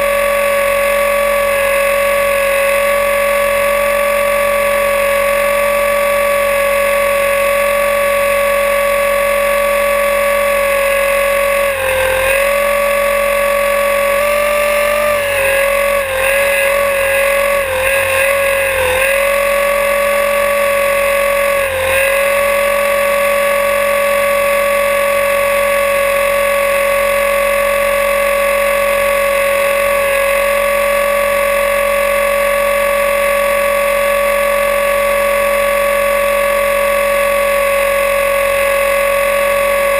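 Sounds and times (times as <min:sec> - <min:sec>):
electric helicopter motor whine: 0:00.0 - 0:39.9.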